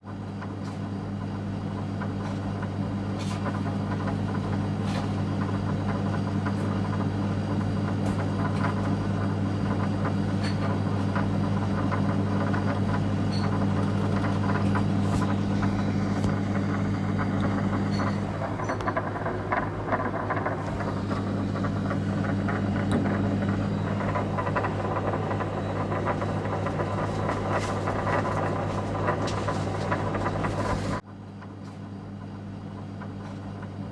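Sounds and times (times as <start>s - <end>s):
low mechanical hum: 0.0s - 33.9s.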